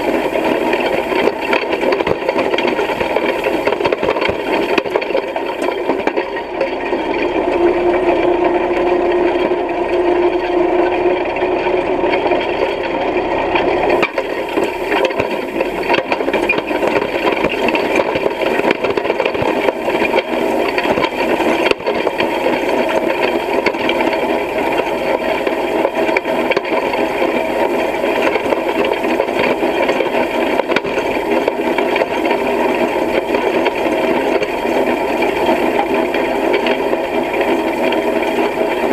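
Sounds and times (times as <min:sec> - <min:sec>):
hay rake rattling and clattering: 0:00.0 - 0:38.9.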